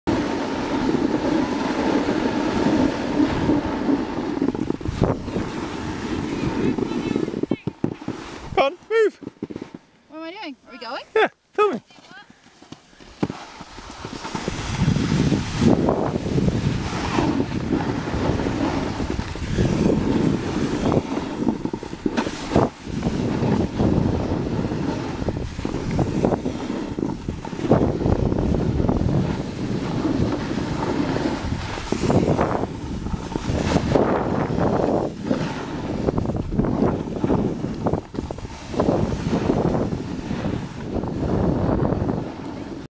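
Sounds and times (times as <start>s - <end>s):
wind buffeting microphone: 0.1s - 9.9s, 13.0s - 42.9s
snowboard scraping over crusty snow: 0.1s - 11.0s, 11.8s - 42.9s.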